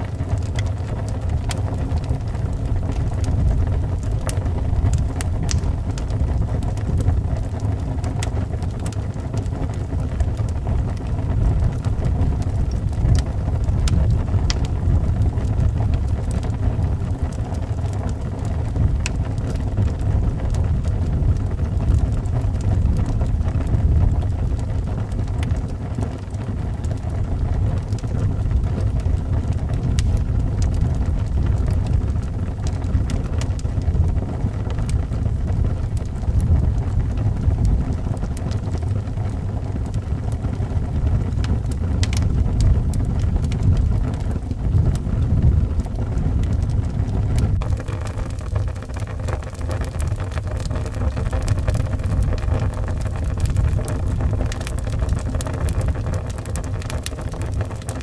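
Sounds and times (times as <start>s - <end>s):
wind rumbling low: 0.0s - 58.0s
wood fire crackling: 0.0s - 58.0s.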